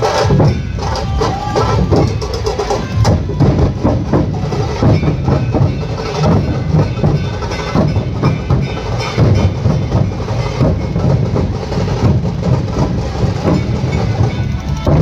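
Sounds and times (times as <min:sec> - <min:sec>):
barrel drums beaten with sticks: 0:00.0 - 0:15.0.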